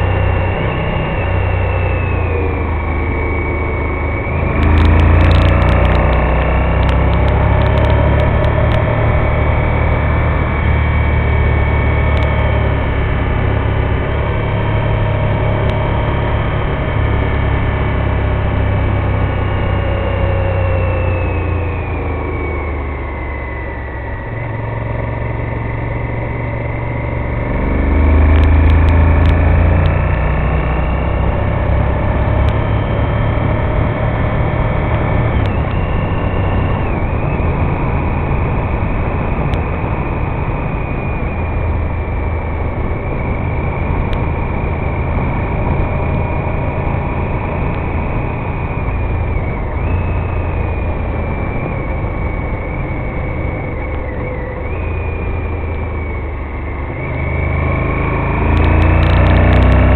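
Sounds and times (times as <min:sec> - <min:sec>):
wind rush: 0:00.0 - 0:59.6
motorcycle engine accelerating: 0:00.0 - 0:59.9.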